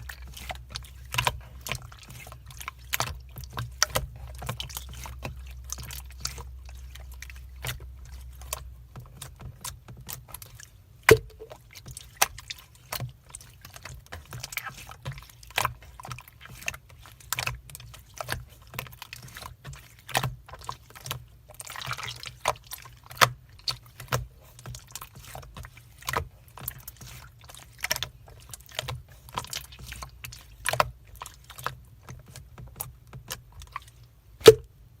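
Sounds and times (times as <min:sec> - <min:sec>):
slime squishing with wet pops: 0:00.0 - 0:35.0.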